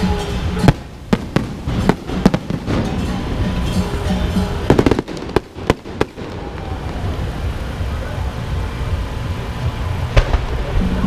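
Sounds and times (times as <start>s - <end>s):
fireworks bangs and cracks: 0.0s - 11.0s
music: 0.0s - 11.0s.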